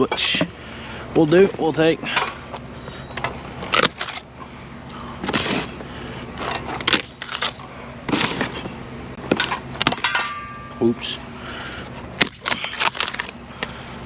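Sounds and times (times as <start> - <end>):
fans knocking and clattering: 0.0 - 14.0.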